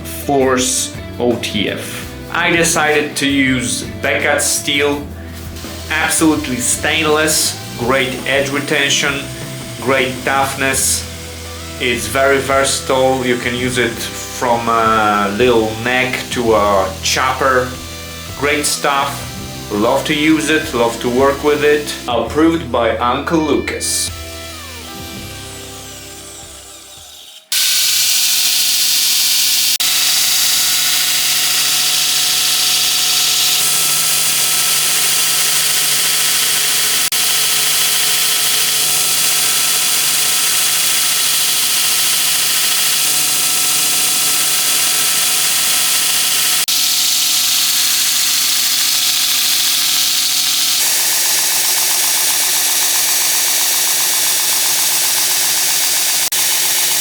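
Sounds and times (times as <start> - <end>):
power tool grinding steel: 2.0 - 57.0.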